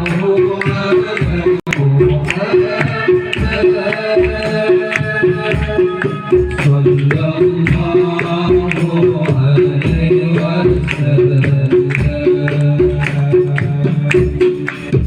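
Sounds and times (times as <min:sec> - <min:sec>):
drums and percussion: 0:00.0 - 0:15.0.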